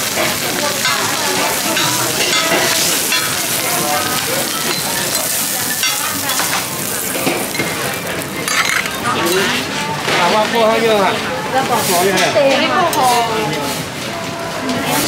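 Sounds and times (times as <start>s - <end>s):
bread sizzling in oil: 0.0s - 12.3s.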